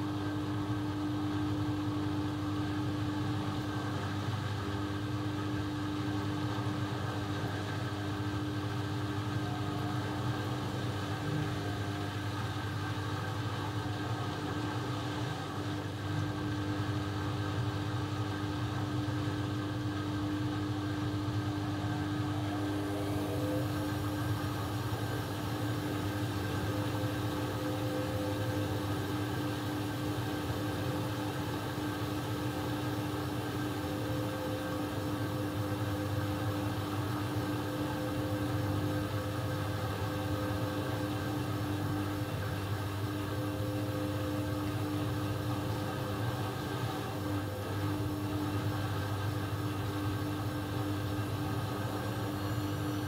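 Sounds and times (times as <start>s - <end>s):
laundry machine motor humming: 0.0s - 53.0s.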